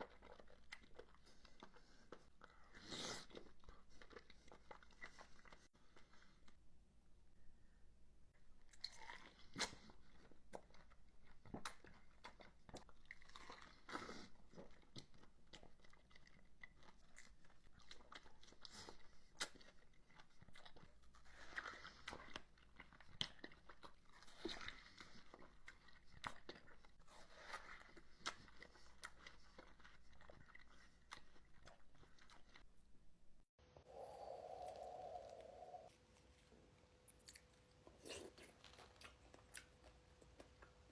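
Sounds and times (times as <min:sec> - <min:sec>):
person chewing fruit: 0:00.0 - 0:06.6, 0:08.6 - 0:33.0, 0:33.8 - 0:40.9.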